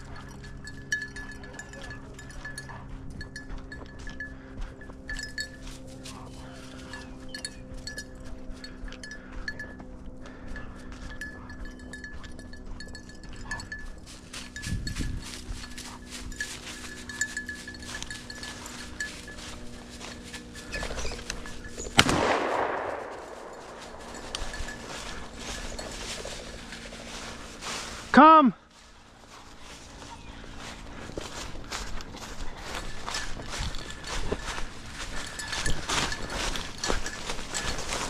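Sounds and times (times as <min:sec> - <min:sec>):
dog collar bell jingling: 0:00.0 - 0:22.0, 0:23.0 - 0:28.1, 0:29.4 - 0:38.0
small metallic clinks: 0:00.0 - 0:27.4, 0:31.2 - 0:38.0.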